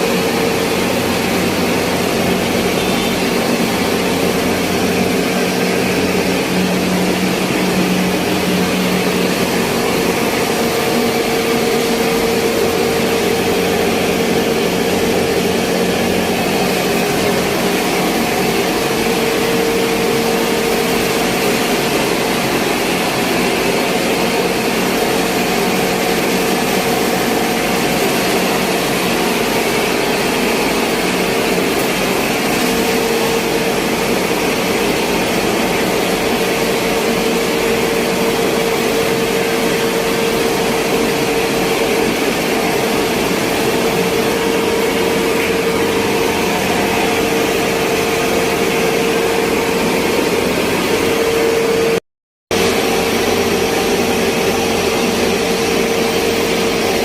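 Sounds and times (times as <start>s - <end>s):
electric machinery humming: 0.0s - 57.0s.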